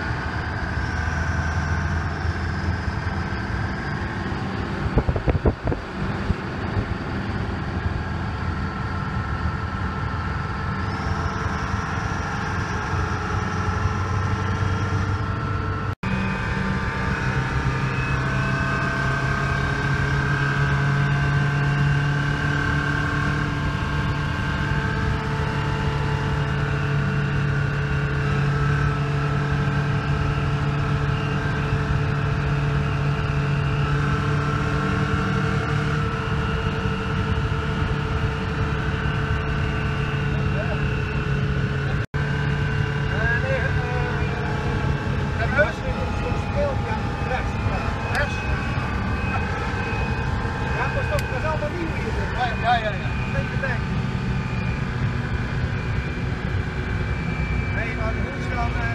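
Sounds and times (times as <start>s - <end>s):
road and wind noise: 0.0s - 58.9s
truck engine drone: 0.0s - 58.9s.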